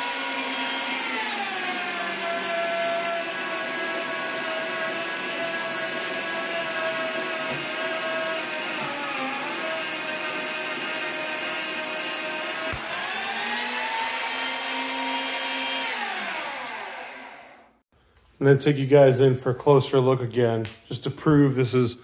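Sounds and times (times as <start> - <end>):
drill motor whining: 0.0 - 17.8.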